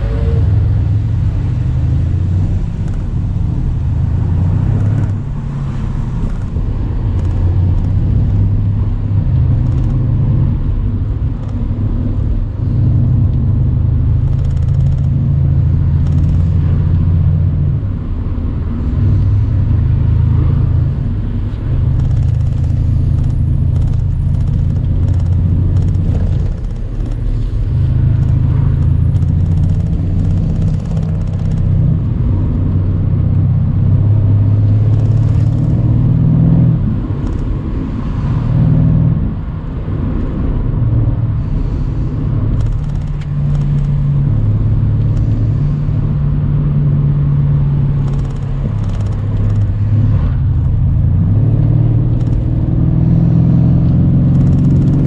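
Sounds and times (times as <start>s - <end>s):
car engine exhaust note: 0.0s - 55.0s.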